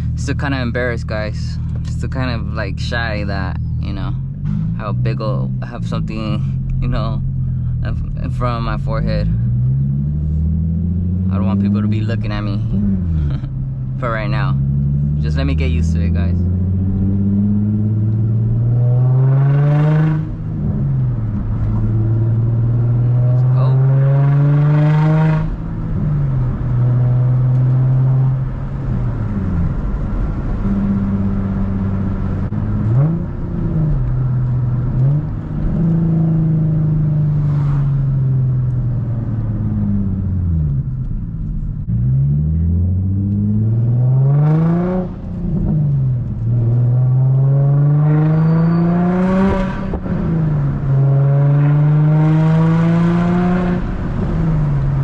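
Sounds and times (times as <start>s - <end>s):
car engine revving through gears: 3.2s - 55.0s.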